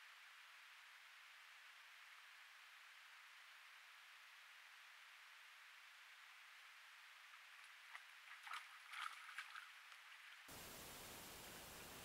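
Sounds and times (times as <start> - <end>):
steady microphone hiss: 0.0 - 8.5, 9.7 - 12.0
faint ticks and patters: 0.0 - 12.0.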